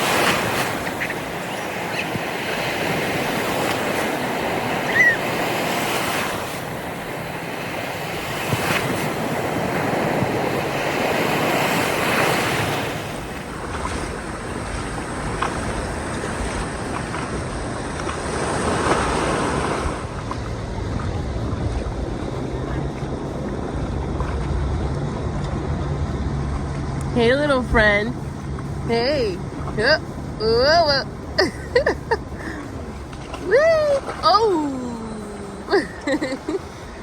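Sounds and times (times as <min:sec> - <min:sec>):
ocean surf washing ashore: 0:00.0 - 0:37.0
wind rumbling on microphone: 0:00.0 - 0:37.0.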